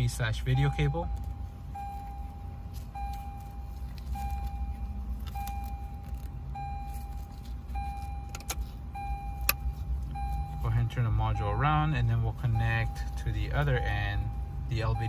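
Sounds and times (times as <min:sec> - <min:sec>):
dashboard warning chime: 0:00.0 - 0:15.0
low steady hum: 0:00.0 - 0:15.0.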